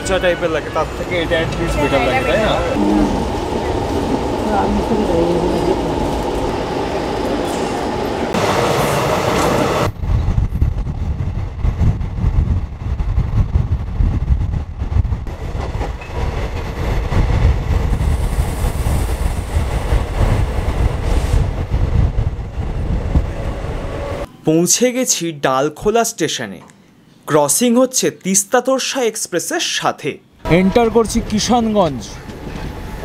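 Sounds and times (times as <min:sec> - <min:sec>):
train rumbling on rails: 0:00.0 - 0:24.3, 0:30.4 - 0:33.0.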